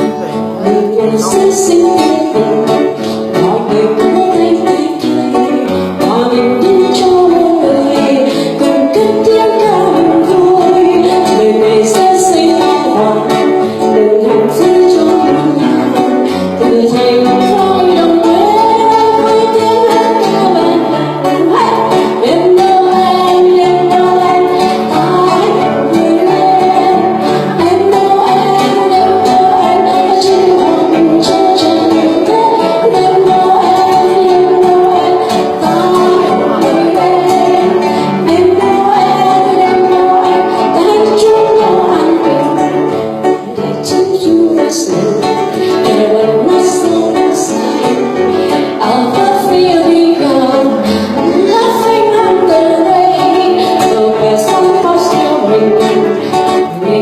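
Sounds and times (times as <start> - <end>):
christmas song with plucked strings: 0.0 - 57.0.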